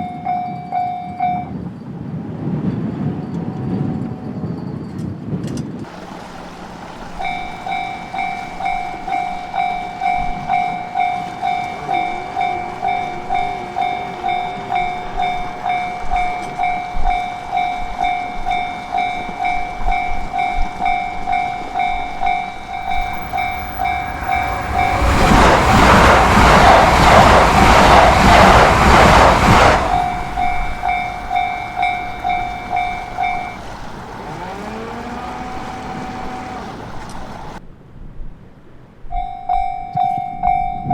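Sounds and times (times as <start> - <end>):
level-crossing warning bell ringing: 0.0 - 2.0, 6.0 - 37.6, 39.1 - 40.9
train wheels clattering on rails: 2.6 - 37.6.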